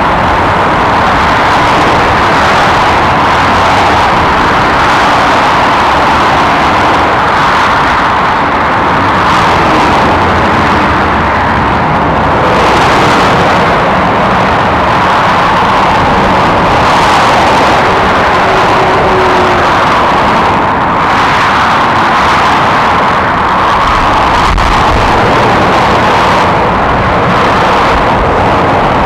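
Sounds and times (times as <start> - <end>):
heavy motorway traffic: 0.0 - 29.0.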